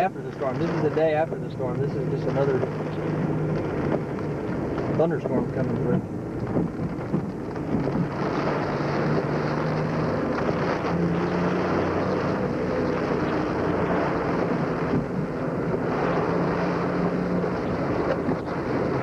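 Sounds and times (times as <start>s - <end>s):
car engine and road hum: 0.0s - 19.0s
wind: 0.0s - 19.0s
rain hiss: 0.4s - 19.0s.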